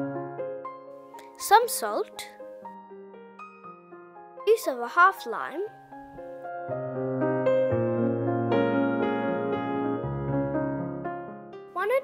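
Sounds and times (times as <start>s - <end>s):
keyboard music with piano notes: 0.0s - 12.0s.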